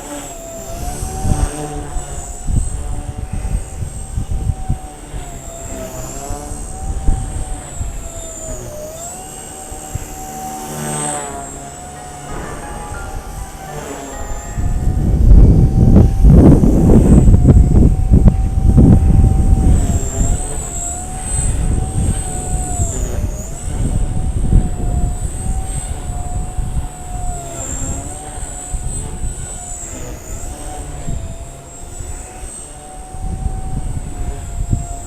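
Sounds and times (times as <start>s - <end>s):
small electric helicopter whining: 0.0s - 35.0s
wind buffeting microphone: 0.0s - 35.0s.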